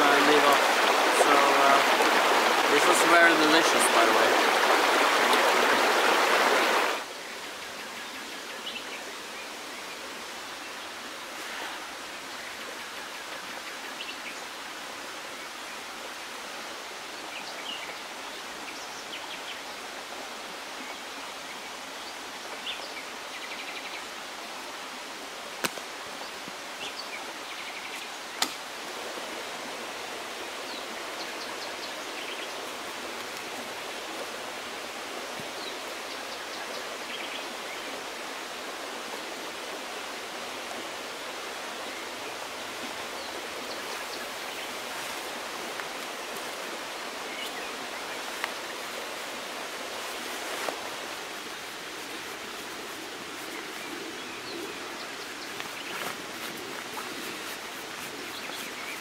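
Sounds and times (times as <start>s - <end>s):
river rushing: 0.0s - 7.5s, 14.5s - 59.0s.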